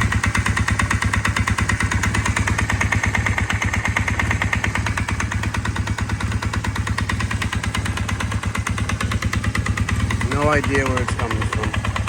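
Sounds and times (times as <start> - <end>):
motorcycle engine running: 0.0 - 12.0
rapid engine knocking: 0.0 - 12.0.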